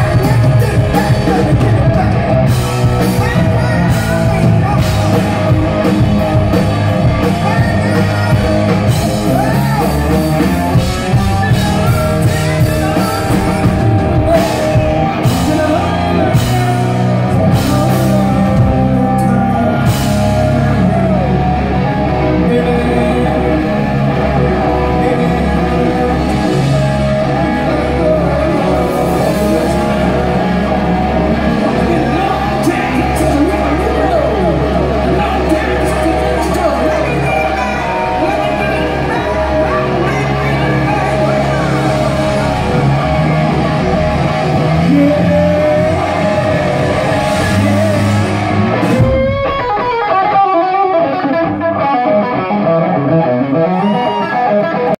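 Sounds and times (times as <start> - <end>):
male singer: 0.0 - 49.2
drum kit: 0.0 - 51.7
bass guitar: 0.0 - 55.0
electric guitars: 0.0 - 55.0.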